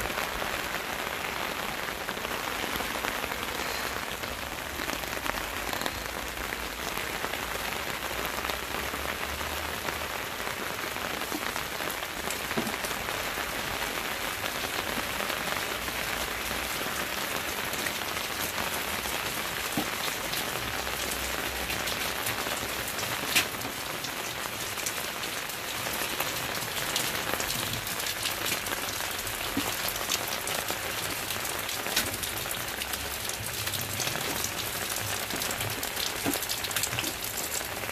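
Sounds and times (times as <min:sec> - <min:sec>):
rain falling on grass and paving: 0:00.0 - 0:37.9.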